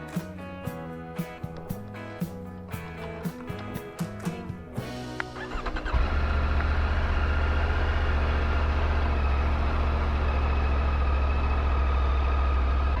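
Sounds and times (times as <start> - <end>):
motorcycle engine idling: 0.1 - 13.0.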